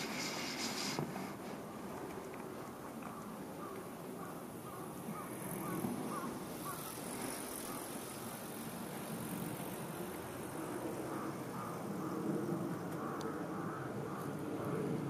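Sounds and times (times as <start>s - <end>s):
steady low street hum: 0.0s - 15.0s.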